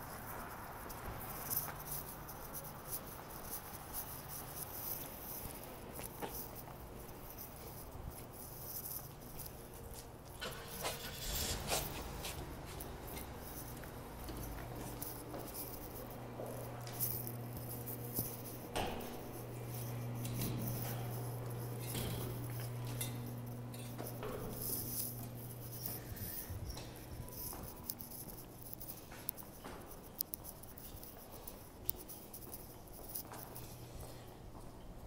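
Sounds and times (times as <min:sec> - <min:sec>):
footsteps: 0:00.0 - 0:34.8
steady low hum: 0:00.2 - 0:35.0.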